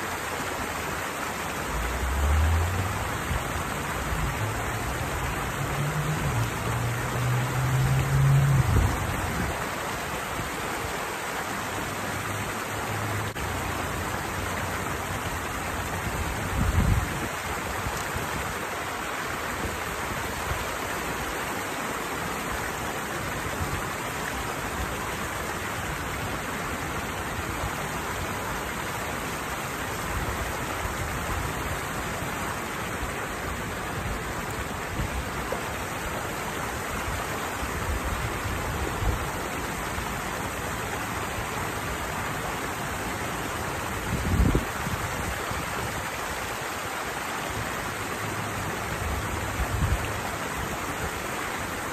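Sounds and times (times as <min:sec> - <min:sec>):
water pouring down a cascade: 0:00.0 - 0:51.9.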